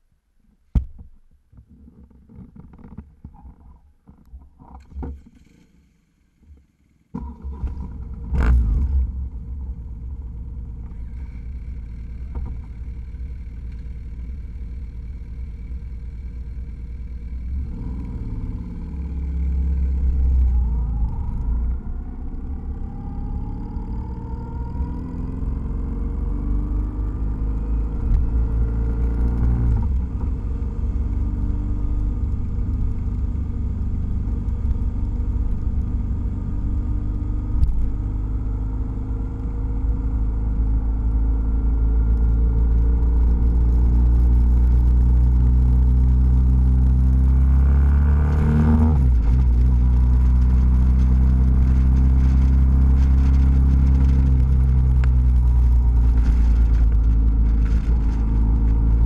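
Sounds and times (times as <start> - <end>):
motorcycle engine revving: 7.2 - 59.0.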